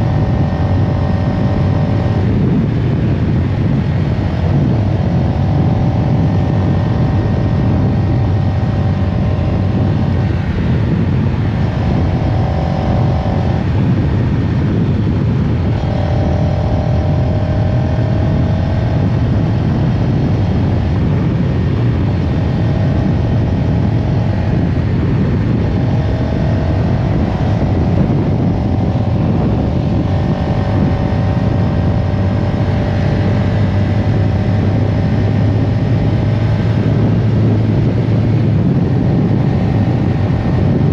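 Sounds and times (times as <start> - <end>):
high engine whine: 0.0 - 40.9
motorcycle engine droning: 0.0 - 40.9.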